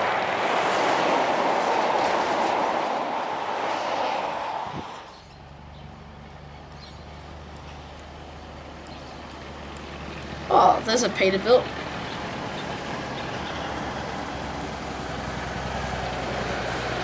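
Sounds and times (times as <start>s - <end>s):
heavy truck passing: 0.0s - 17.0s
low engine drone: 0.0s - 17.0s.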